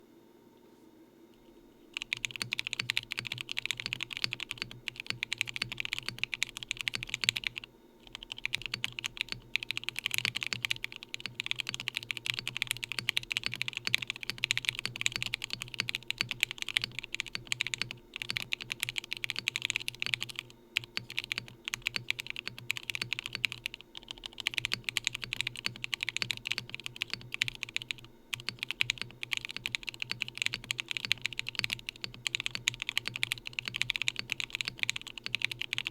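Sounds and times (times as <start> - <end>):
fast typing on mechanical keyboard: 2.0 - 35.9.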